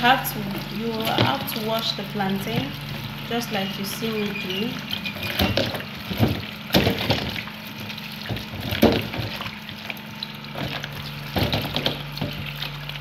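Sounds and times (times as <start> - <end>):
tap water running into basin: 0.0 - 13.0
splashes and knocks in water: 0.4 - 3.3, 4.5 - 13.0.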